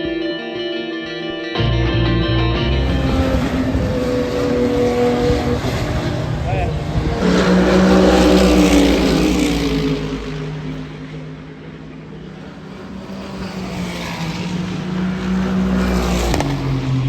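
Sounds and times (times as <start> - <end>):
race car engines passing: 1.6 - 17.0.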